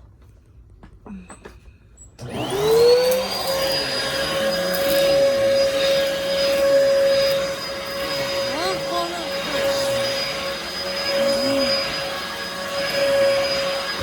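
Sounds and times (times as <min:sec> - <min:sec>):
vacuum cleaner whining: 0:02.2 - 0:14.0.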